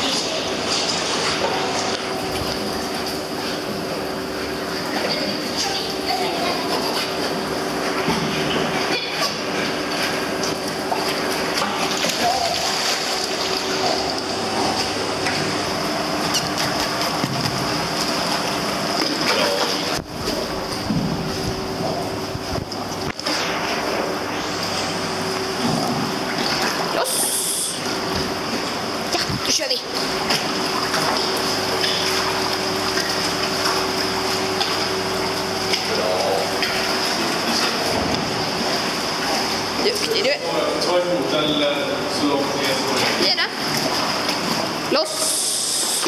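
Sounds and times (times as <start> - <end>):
steady mechanical hum: 0.0 - 46.0
water splashing around swimming dog: 0.0 - 46.0.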